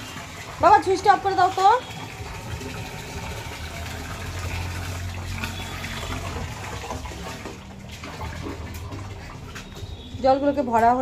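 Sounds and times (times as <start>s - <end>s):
water gushing from a pipe: 0.0s - 10.3s
electric water pump humming: 0.0s - 11.0s.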